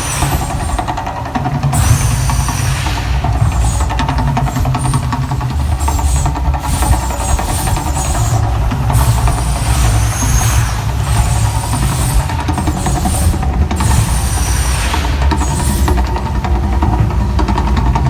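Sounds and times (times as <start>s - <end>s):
volcano hissing bursts: 0.0s - 16.3s
volcano deep rumble: 0.0s - 18.0s.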